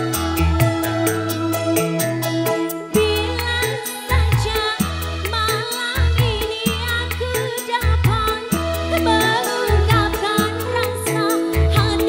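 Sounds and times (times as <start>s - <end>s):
live band music: 0.0s - 12.0s
woman singing: 0.0s - 12.0s.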